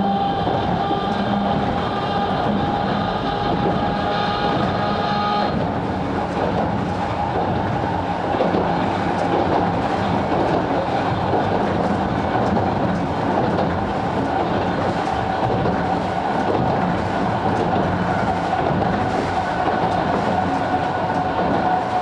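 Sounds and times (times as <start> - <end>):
train wheels and motors rumbling: 0.0 - 22.0.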